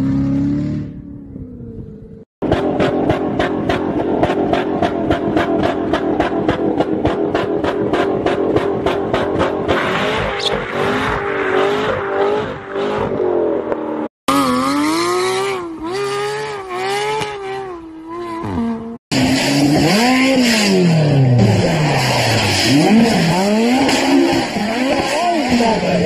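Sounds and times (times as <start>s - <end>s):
car engine revving: 2.4s - 26.0s.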